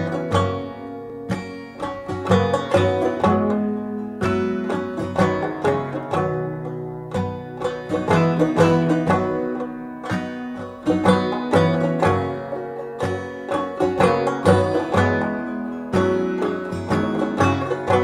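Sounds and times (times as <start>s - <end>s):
plucked string notes: 0.0s - 18.0s.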